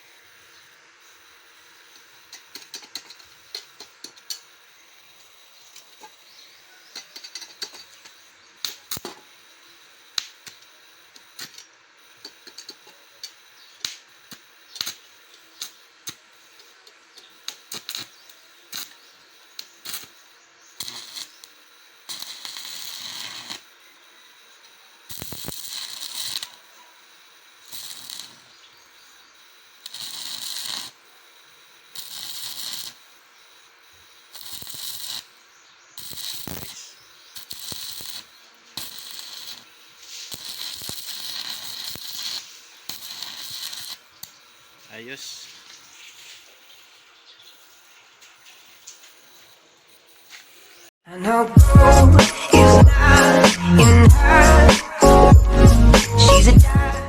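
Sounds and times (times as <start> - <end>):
welding arc crackling: 0.0 - 57.0.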